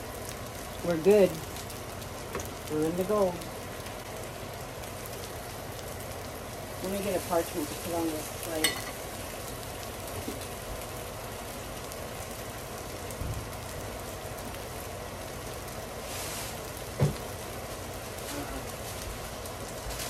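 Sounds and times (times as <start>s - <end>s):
food sizzling on griddle: 0.0s - 20.0s.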